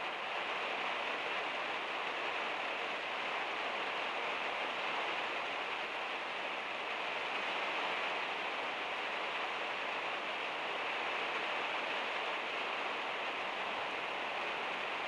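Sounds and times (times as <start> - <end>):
heavy rain on metal roof: 0.0 - 15.0.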